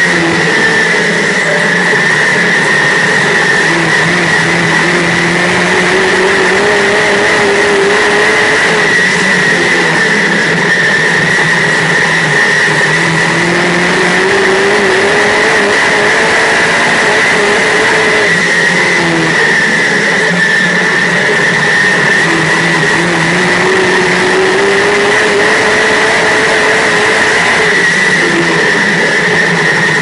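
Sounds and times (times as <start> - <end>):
race car engine at speed: 0.0 - 30.0
steady high whine: 0.0 - 30.0.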